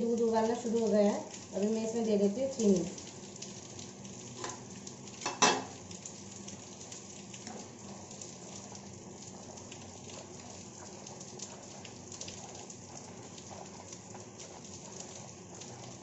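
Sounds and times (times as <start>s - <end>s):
milk boiling in a metal pan: 0.0s - 16.0s.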